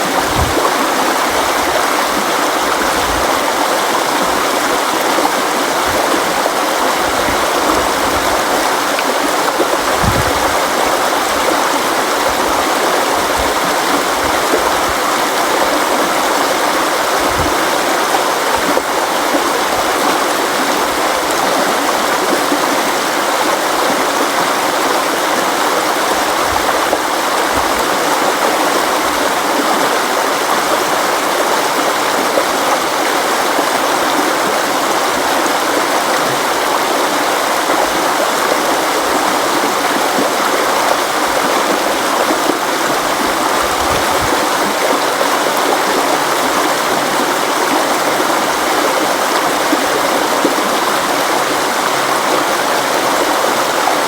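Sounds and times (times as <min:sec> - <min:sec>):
low water gurgle: 0:00.0 - 0:54.0
river water rushing: 0:00.0 - 0:54.0.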